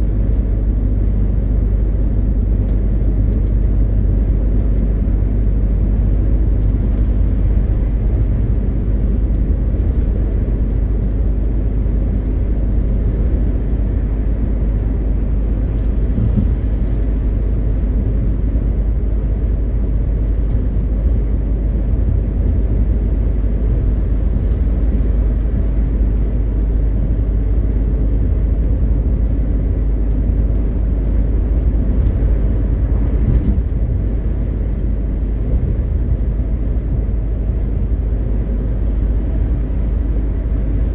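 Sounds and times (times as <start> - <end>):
road noise: 0.0 - 40.9
truck diesel engine drone: 0.0 - 40.9.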